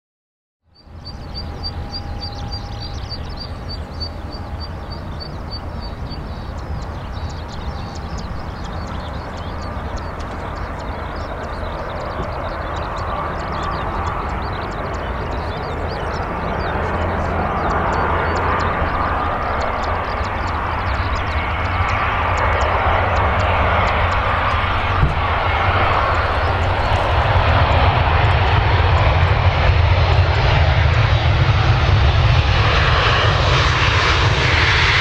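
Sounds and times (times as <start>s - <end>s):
jet airliner engine noise: 0.7s - 35.0s
low rumble: 0.8s - 35.0s.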